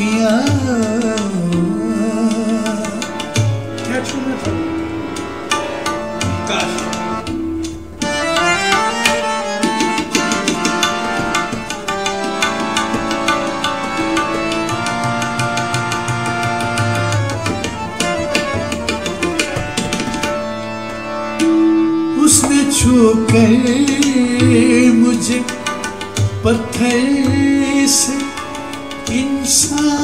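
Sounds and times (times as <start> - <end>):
sustained melodic accompaniment: 0.0 - 30.0
tabla playing a dense rhythm: 0.0 - 30.0.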